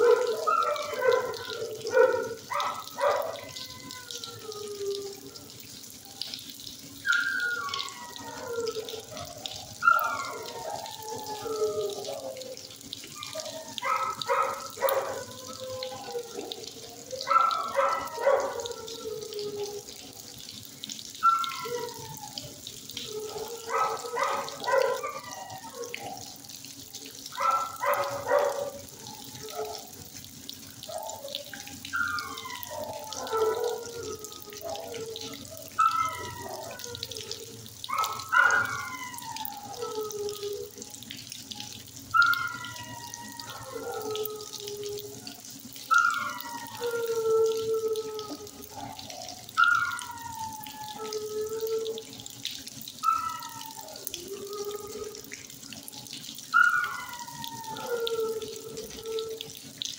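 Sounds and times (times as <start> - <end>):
dogs barking: 0.0 - 6.3, 7.1 - 52.2, 52.8 - 59.4
dogs howling: 0.0 - 59.9.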